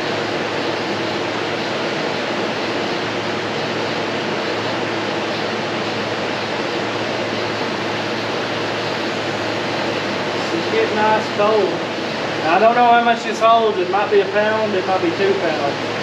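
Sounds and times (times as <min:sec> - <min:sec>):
air conditioner fan rushing air: 0:00.0 - 0:16.0
low compressor hum: 0:00.0 - 0:16.0.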